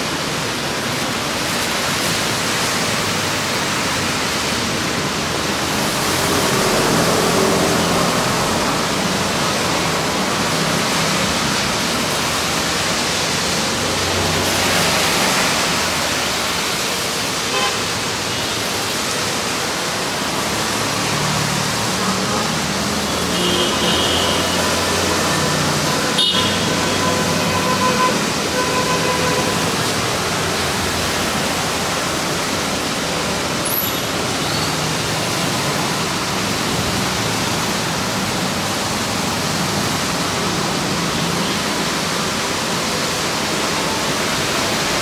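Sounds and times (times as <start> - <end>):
heavy rain hissing: 0.0 - 45.0
vehicles swishing through water: 0.0 - 45.0.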